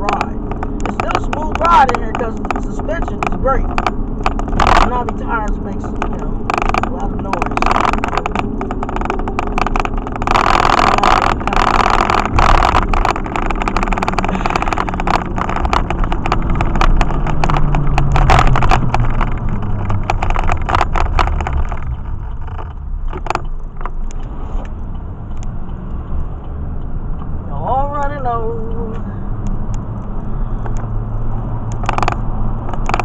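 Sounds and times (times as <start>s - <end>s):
small clicks and rattles: 0.0s - 26.3s, 28.0s - 33.0s
truck engine and tire drone: 0.0s - 33.0s.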